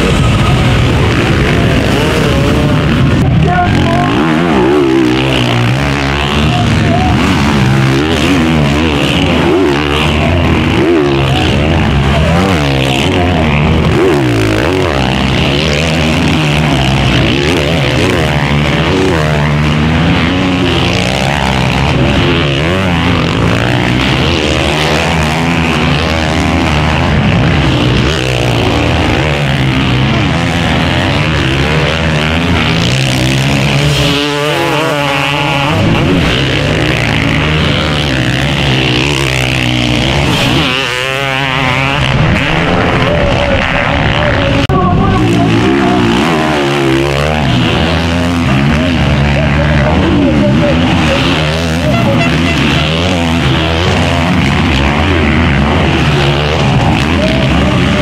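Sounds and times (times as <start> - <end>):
motocross bikes revving: 0.0 - 58.0.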